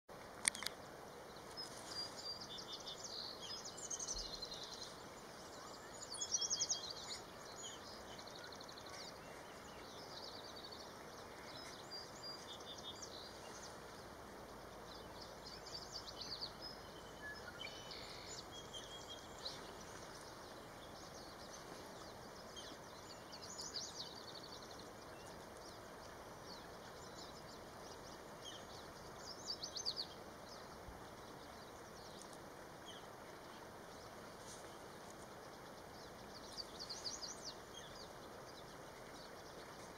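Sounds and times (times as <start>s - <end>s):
songbirds chirping and trilling: 0.1s - 39.9s
steady outdoor hiss: 0.1s - 39.9s.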